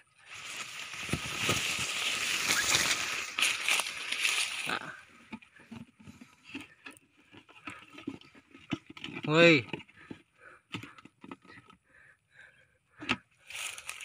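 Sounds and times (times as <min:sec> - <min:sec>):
rustling handling noise: 0:00.3 - 0:11.8, 0:13.5 - 0:14.0.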